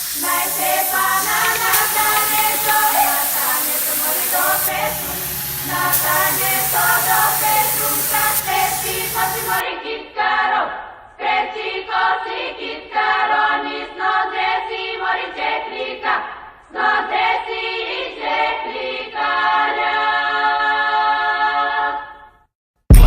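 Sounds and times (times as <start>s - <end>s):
choir singing held chords: 0.0s - 22.1s.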